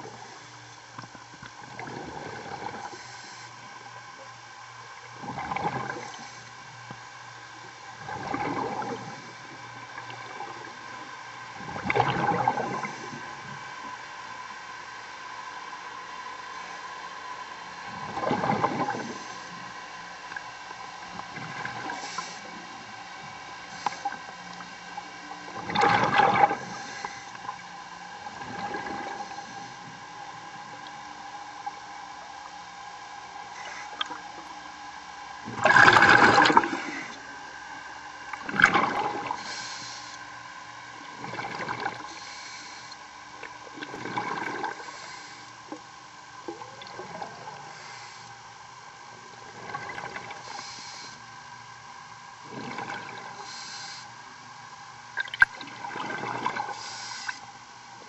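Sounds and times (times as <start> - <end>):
steady hum: 0.0 - 58.0
underwater bubbling: 0.0 - 58.0.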